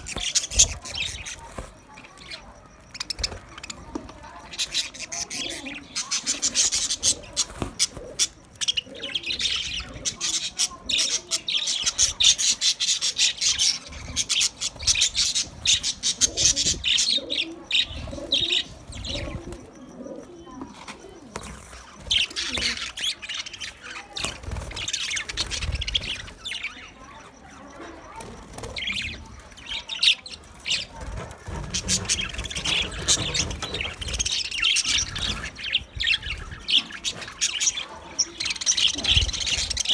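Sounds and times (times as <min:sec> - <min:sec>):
parrots chattering and chirping: 0:00.0 - 0:39.9.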